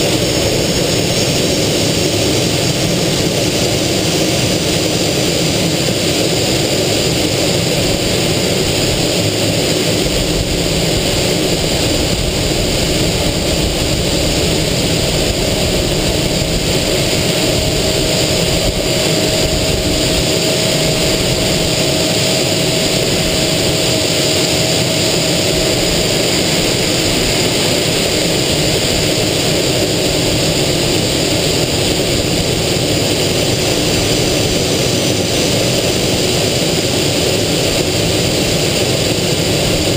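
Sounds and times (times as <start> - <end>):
jet engine whining: 0.0 - 39.9
rushing airflow: 0.0 - 39.9.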